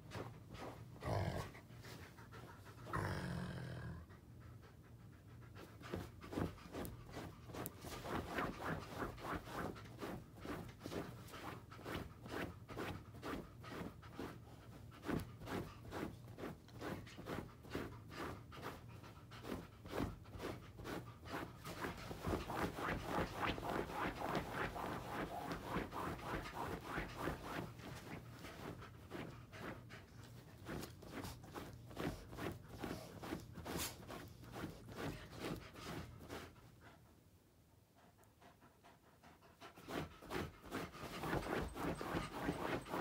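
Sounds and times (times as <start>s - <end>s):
dog panting: 0.0s - 43.0s.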